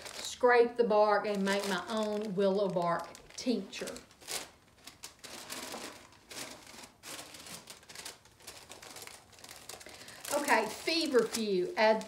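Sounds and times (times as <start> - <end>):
paper bags crinkling: 0.0 - 12.0.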